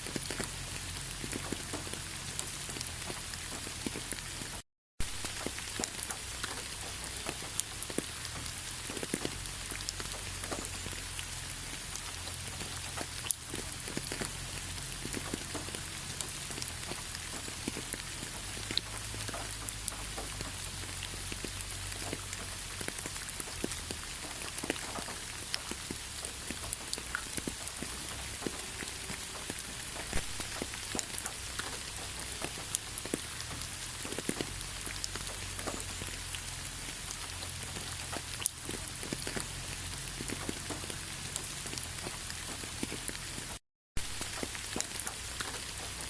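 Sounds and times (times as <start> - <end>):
raindrops ticking close by: 0.0 - 46.0
steady rainfall: 0.0 - 46.0.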